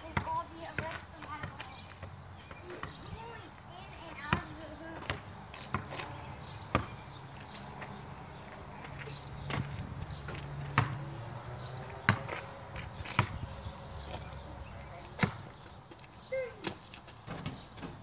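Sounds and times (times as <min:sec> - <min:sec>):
basketball bouncing on pavement: 0:00.0 - 0:18.0.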